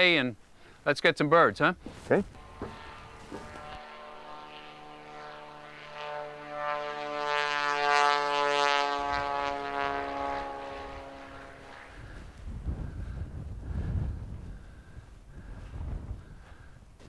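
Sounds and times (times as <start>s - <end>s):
propeller plane engine: 2.0s - 17.0s.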